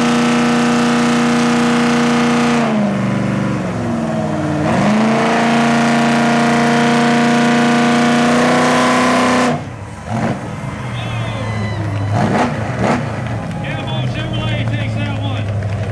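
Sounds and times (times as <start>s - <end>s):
truck engines at high revs: 0.0s - 15.9s.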